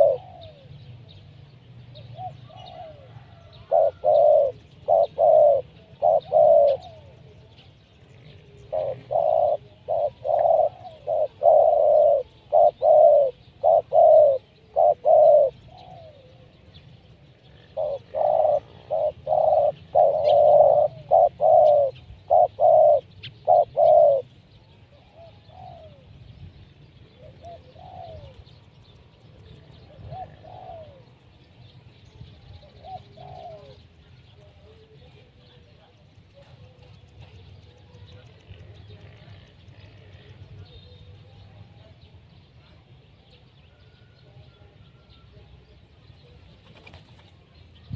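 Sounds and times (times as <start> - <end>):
dove cooing: 0.0 - 1.1, 1.9 - 16.8, 17.5 - 26.3, 27.0 - 28.6, 29.4 - 31.4, 32.2 - 45.4.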